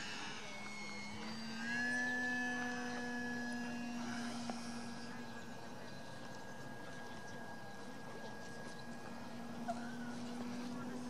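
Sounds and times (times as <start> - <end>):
model plane motor droning: 0.0 - 11.0.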